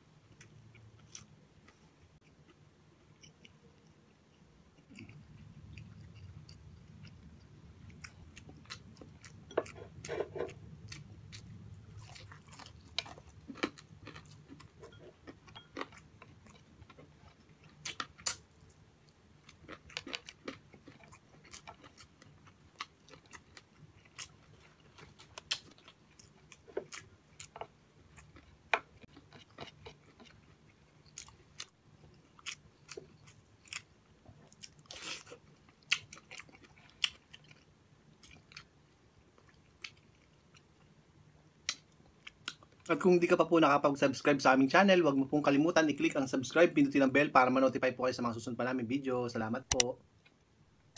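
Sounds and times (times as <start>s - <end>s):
man chewing with crunches: 0.2s - 42.9s.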